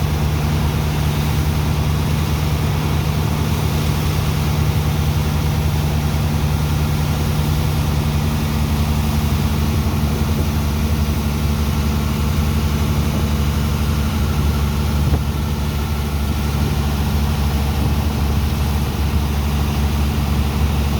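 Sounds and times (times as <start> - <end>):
heavy pump engine humming: 0.0 - 20.9.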